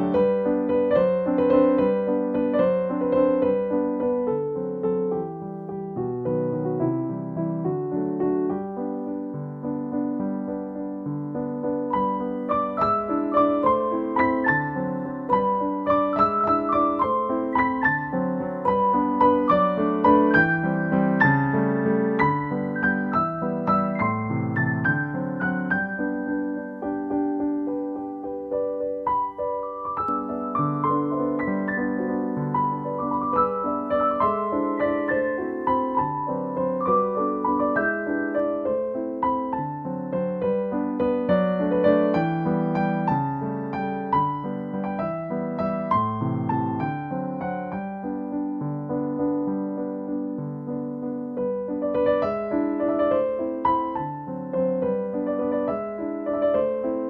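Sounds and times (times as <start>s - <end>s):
gentle piano melody: 0.0s - 57.0s
instrumental keyboard music: 0.0s - 57.0s.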